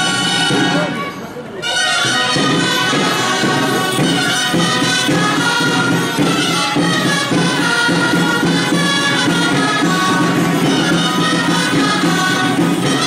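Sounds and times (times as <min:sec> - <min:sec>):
shrill reed instruments playing: 0:00.0 - 0:13.0
steady drum beat: 0:02.0 - 0:13.0.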